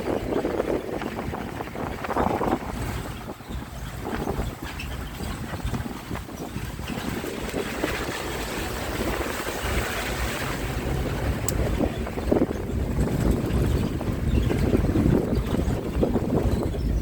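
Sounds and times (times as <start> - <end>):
moving bus rumble: 0.0 - 17.0
wind buffeting microphone: 0.0 - 17.0.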